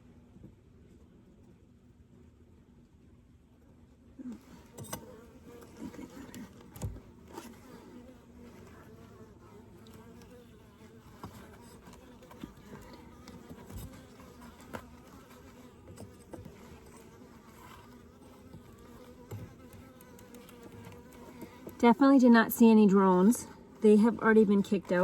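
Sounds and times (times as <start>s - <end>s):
honeybees buzzing: 4.2s - 25.0s.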